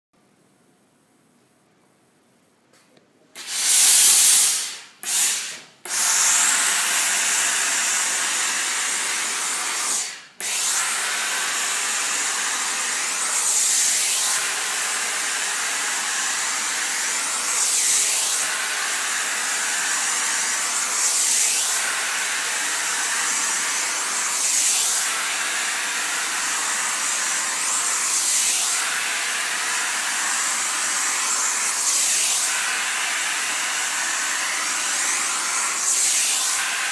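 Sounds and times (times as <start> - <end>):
garment steamer hissing: 3.4 - 36.9.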